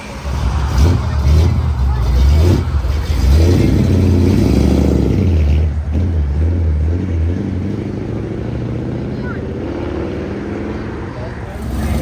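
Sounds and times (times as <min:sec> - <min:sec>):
car engine rumbling pulling away: 0:00.0 - 0:12.0.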